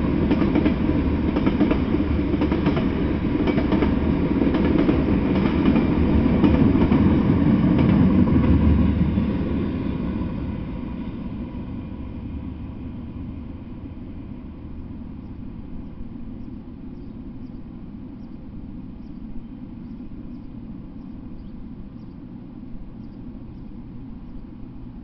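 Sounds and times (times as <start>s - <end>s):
freight train rumble: 0.0s - 25.0s.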